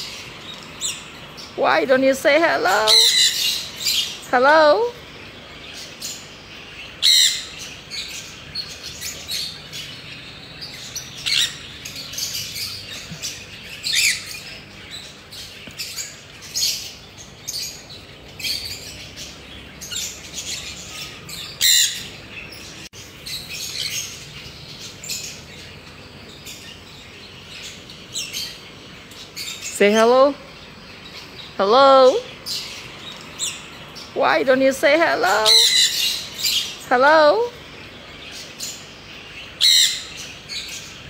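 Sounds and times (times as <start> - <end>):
parrots chirping and squawking: 0.0 - 41.0.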